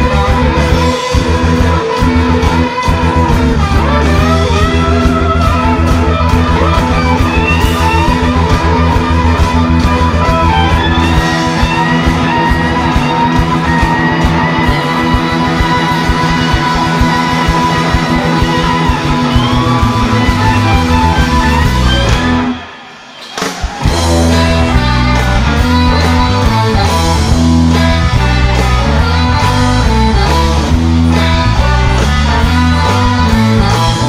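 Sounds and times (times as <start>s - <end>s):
live blues-rock band playing: 0.0s - 34.0s.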